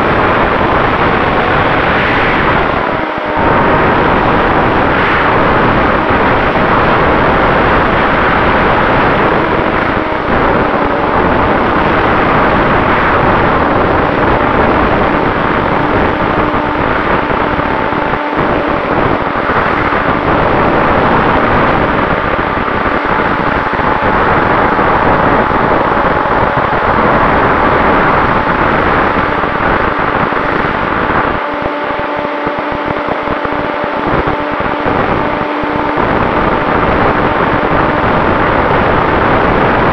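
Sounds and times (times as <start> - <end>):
electric motor and propeller whine: 0.0 - 39.9
wind rush over microphone: 0.0 - 39.9.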